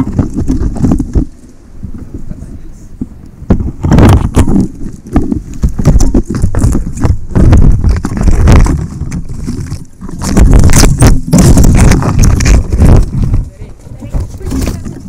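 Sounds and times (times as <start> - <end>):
drone tumbling through branches: 0.0 - 15.0
leaves and branches rustling: 0.0 - 15.0.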